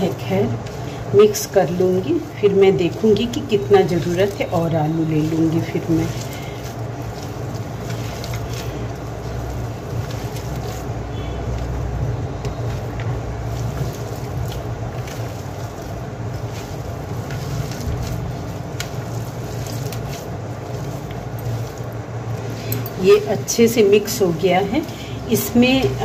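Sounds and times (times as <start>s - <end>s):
hands squishing mashed potato: 0.0s - 26.0s
steady low hum: 0.0s - 26.0s.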